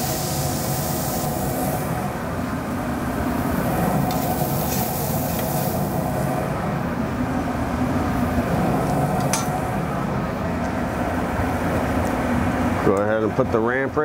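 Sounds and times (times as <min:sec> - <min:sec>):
kitchen machinery hum: 0:00.0 - 0:14.0.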